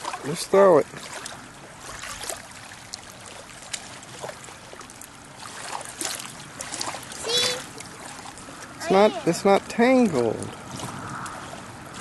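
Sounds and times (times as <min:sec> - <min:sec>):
faint short splashes: 0:00.0 - 0:12.0
water lapping at shoreline: 0:00.0 - 0:12.0.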